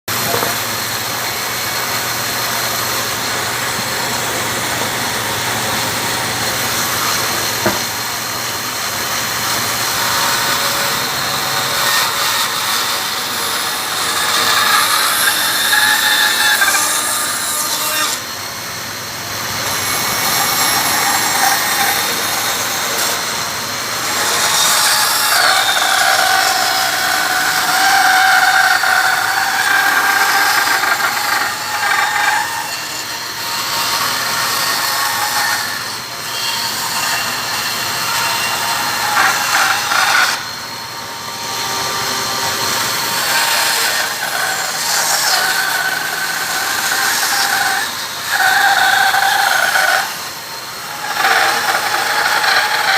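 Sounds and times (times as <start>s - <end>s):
power saw cutting wood: 0.1s - 52.9s.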